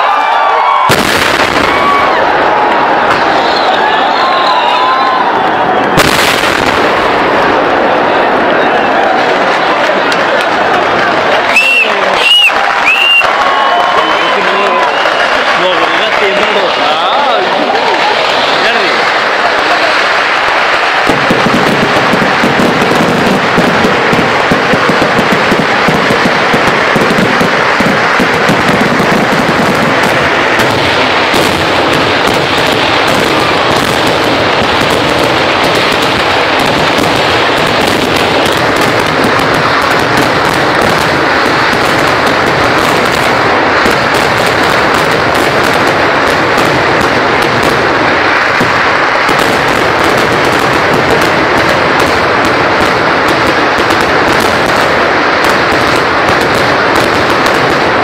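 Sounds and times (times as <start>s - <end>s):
fireworks barrage crackling: 0.0s - 58.0s.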